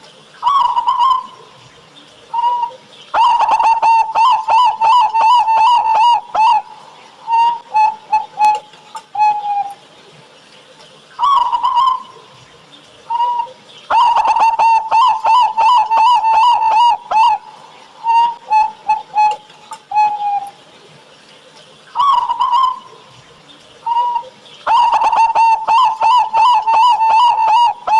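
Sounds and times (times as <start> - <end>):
doves cooing: 0.1 - 10.3, 11.1 - 27.9.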